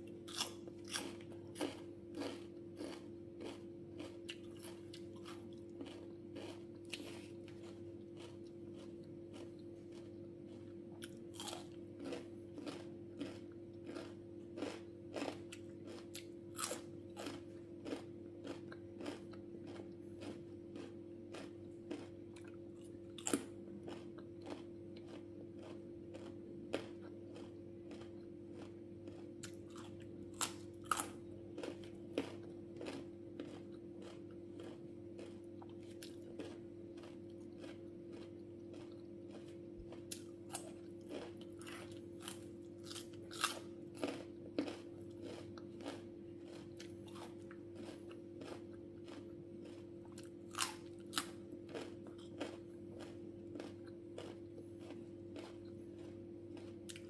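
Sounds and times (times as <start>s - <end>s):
crunchy bites and chewing: 0.0s - 57.0s.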